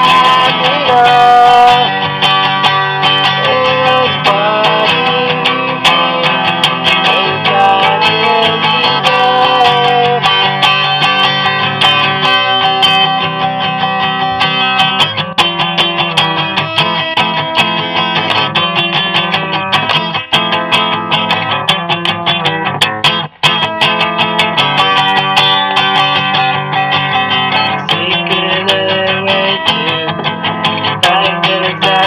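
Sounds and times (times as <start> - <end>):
strummed guitar music: 0.0 - 32.0.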